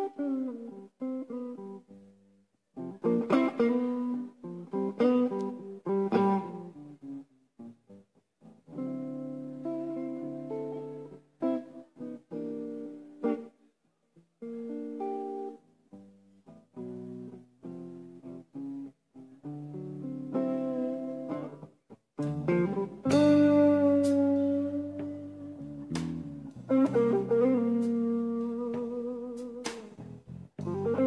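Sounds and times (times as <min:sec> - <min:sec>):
guitar playing slow blues: 0:00.0 - 0:31.0.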